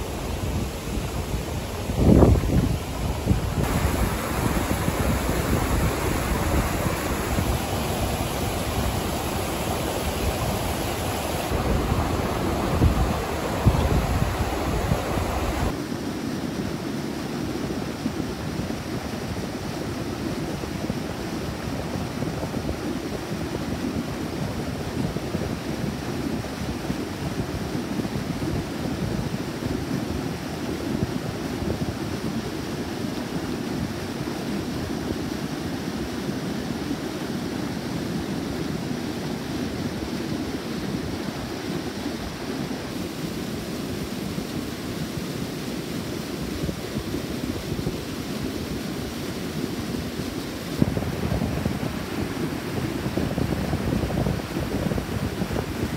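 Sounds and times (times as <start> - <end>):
river rushing over weir: 0.0 - 55.9.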